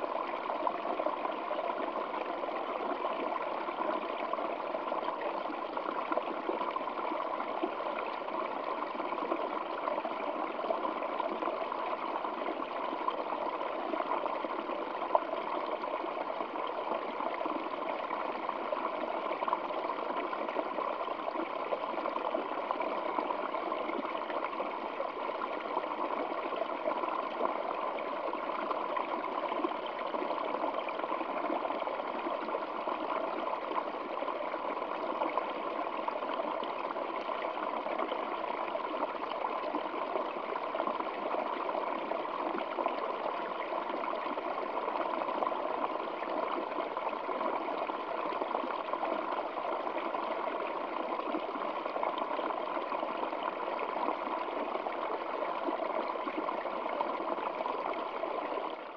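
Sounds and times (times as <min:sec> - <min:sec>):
stream trickling over rocks: 0:00.0 - 0:58.9.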